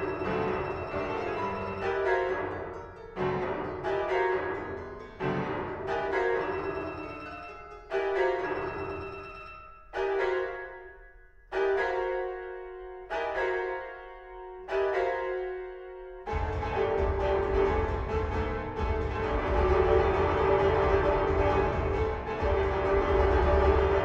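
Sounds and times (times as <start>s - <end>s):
piano chords ringing: 0.0s - 24.0s.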